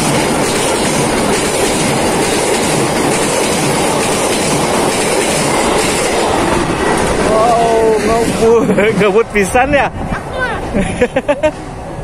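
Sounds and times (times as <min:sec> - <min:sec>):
train wheels rushing on rails: 0:00.0 - 0:12.0.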